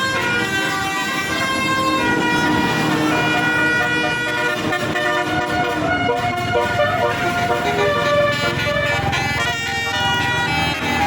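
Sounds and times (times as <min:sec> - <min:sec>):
musical air horn playing tune: 0:00.0 - 0:11.0.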